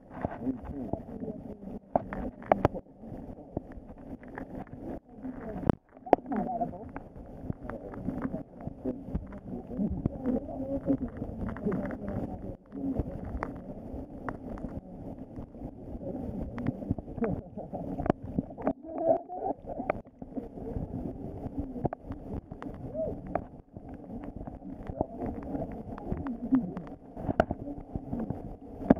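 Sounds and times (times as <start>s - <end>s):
underwater clicks and knocks: 0.0s - 15.5s, 16.4s - 28.9s
muffled underwater river rush: 0.0s - 28.9s.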